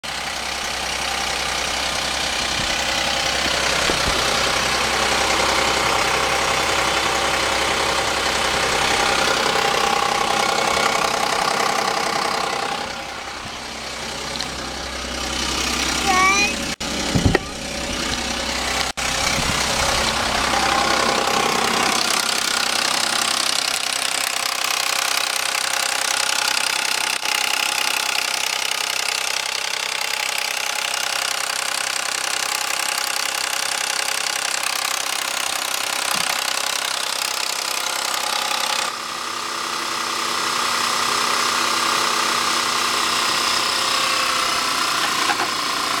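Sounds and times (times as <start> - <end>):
car engine rattling: 0.0 - 46.0.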